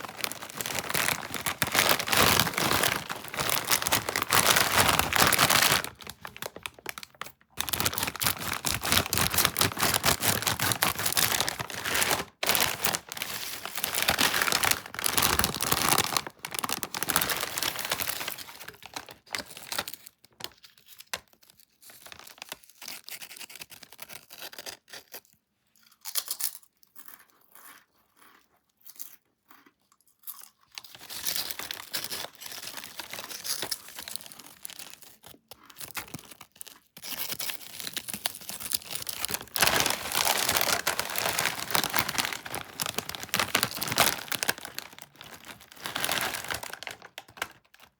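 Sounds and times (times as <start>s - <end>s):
chip packet crinkling: 0.0s - 21.3s, 21.9s - 22.7s, 30.8s - 47.9s.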